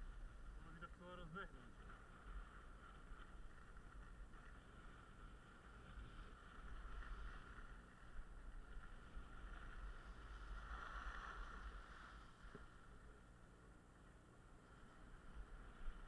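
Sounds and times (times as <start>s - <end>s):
wind rumble on microphone: 0.0s - 13.2s
skis gliding over packed snow: 0.0s - 16.0s.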